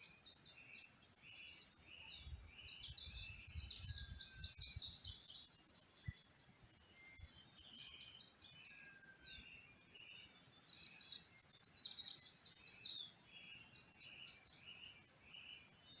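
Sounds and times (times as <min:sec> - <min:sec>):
bird singing high chirps: 0:00.0 - 0:16.0
birds softer lower calls: 0:00.0 - 0:16.0.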